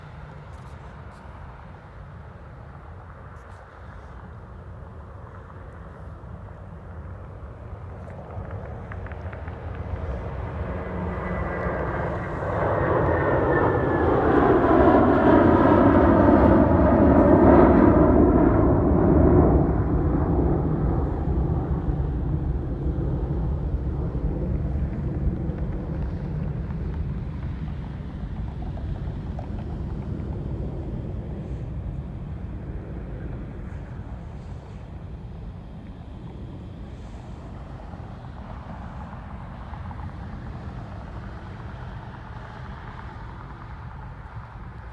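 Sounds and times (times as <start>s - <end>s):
jet airliner climbing past: 0.0s - 44.9s.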